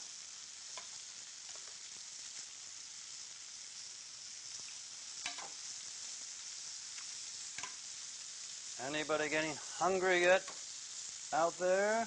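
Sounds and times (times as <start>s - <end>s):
greens sizzling in a pan: 0.0s - 12.0s.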